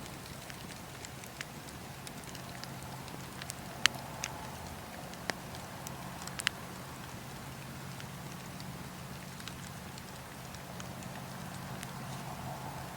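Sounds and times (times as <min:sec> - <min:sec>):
fire crackles and pops: 0:00.0 - 0:12.9
wood fire rumble and hiss: 0:00.0 - 0:12.9.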